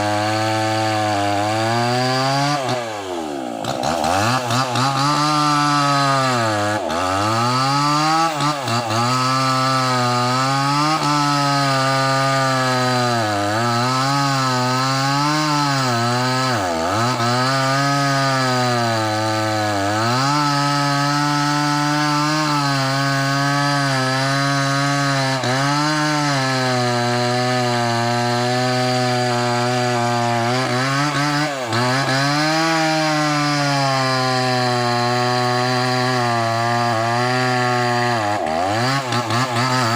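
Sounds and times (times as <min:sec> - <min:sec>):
chainsaw cutting into log: 0:00.0 - 0:39.9.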